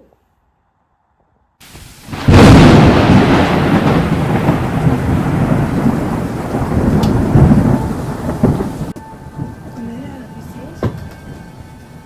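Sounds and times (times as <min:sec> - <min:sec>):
thunder crack: 0:01.6 - 0:12.0
thunder rumbling: 0:01.6 - 0:12.0.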